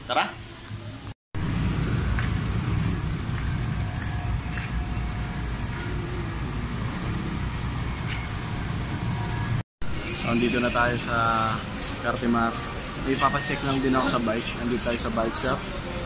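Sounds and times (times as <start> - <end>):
road traffic rumble: 0.8 - 16.0.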